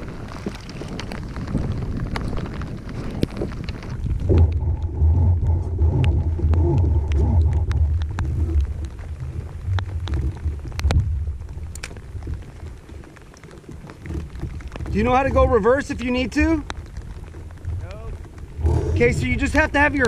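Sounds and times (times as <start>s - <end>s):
raindrops ticking on camera: 0.0s - 20.0s
wind buffeting microphone: 0.0s - 20.0s.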